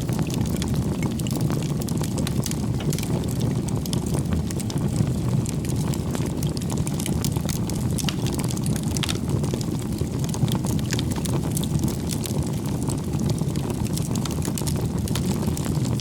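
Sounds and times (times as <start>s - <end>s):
firewood crackling and popping: 0.0s - 16.0s
low roar of flames: 0.0s - 16.0s.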